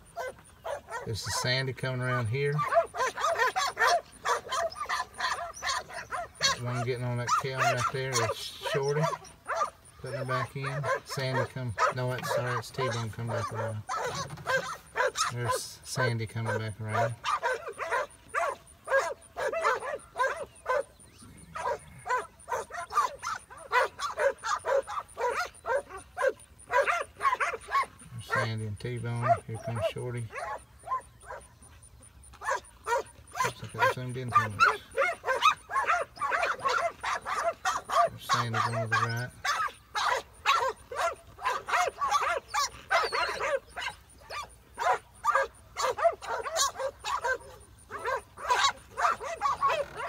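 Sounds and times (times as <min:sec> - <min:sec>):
dog yipping barks: 0:00.1 - 0:15.7, 0:16.4 - 0:31.5, 0:32.4 - 0:50.0.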